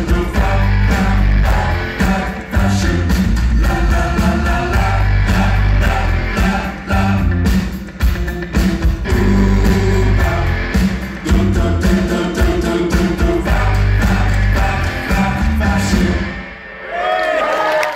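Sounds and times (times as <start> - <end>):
man singing: 0.0 - 7.4, 9.0 - 16.4
live rock band playing: 0.0 - 16.8.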